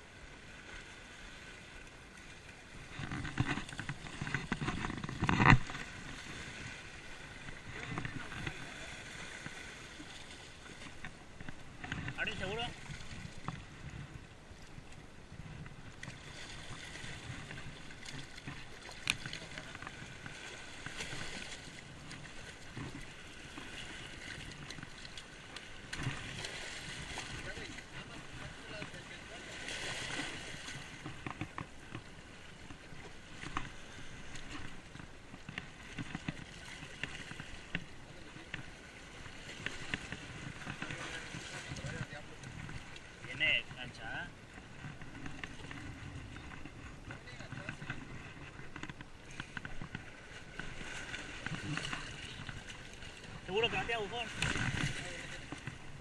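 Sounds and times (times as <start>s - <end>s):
sea water lapping against rocks: 0.0s - 56.0s.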